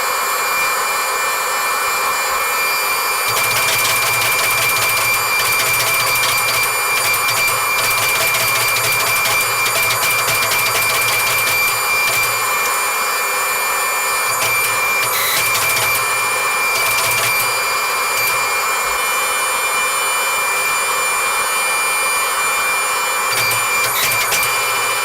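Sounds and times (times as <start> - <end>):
machine whirring with high whine: 0.0 - 25.0.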